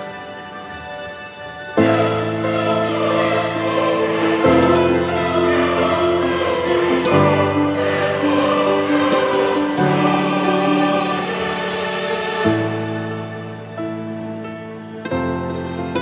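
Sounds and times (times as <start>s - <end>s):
music of sustained chords: 0.0s - 16.0s.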